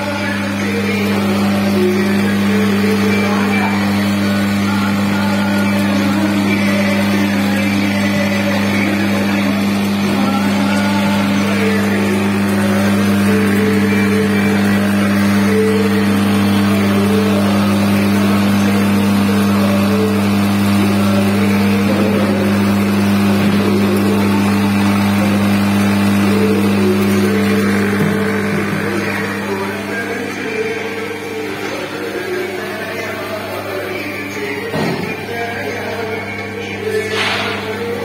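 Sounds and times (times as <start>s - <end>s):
motor hum: 0.0s - 38.0s.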